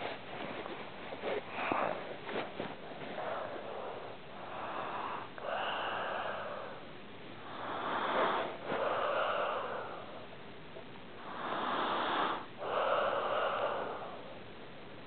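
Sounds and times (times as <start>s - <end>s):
pet snoring: 1.3s - 10.4s, 11.2s - 14.4s.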